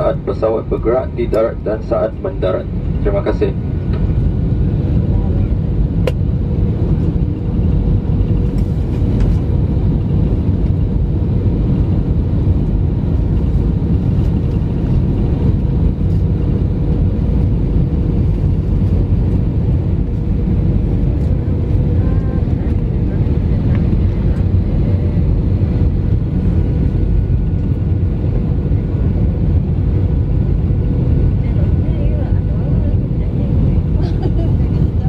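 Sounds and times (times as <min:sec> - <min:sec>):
engine and airflow rumble: 0:00.0 - 0:35.0.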